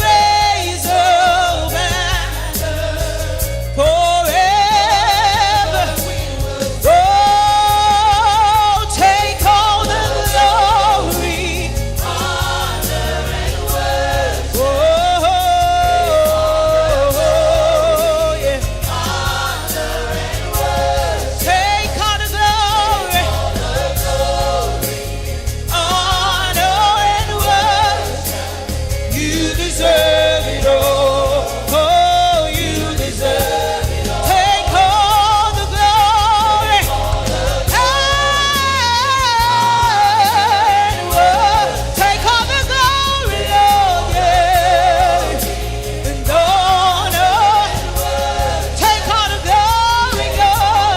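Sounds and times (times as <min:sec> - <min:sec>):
band with steady bass: 0:00.0 - 0:50.9
voices singing with vibrato: 0:00.0 - 0:50.9.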